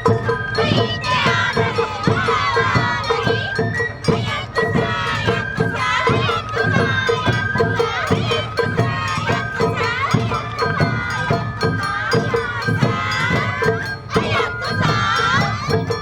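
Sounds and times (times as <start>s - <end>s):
bamboo flute melody: 0.0s - 16.0s
taiko drum strokes: 0.0s - 16.0s.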